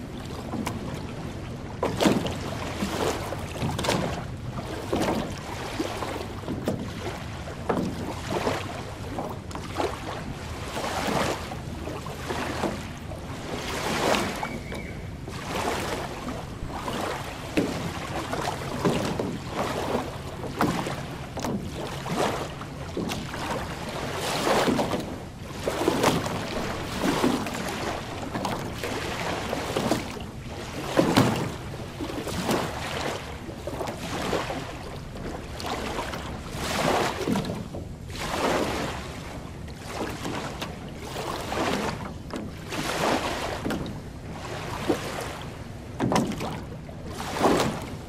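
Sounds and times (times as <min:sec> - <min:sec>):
waves lapping on sandy shore: 0:00.0 - 0:48.0.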